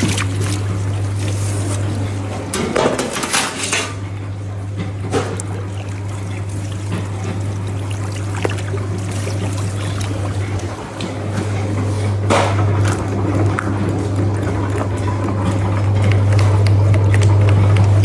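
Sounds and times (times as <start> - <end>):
steady low hum: 0.0 - 18.0
trickling splashing liquid: 0.0 - 18.0.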